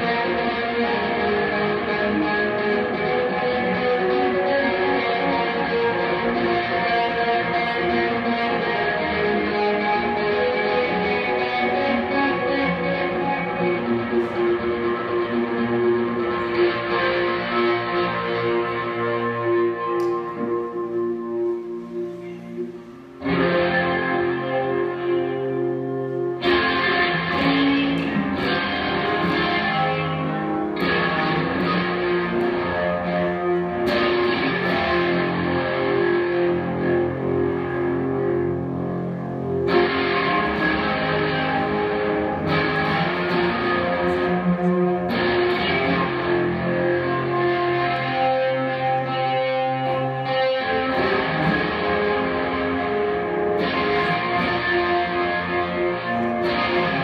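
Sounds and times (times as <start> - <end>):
electric guitar chords and drones: 0.0 - 57.0.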